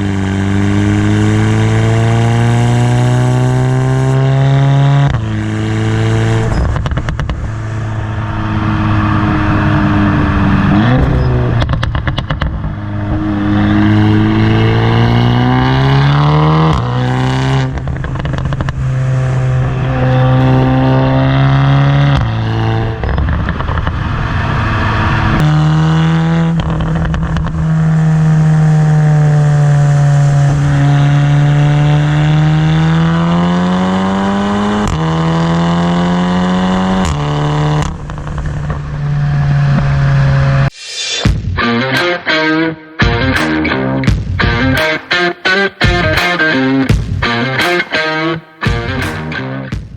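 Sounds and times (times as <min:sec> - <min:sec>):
loud car engine driving: 0:00.0 - 0:49.9.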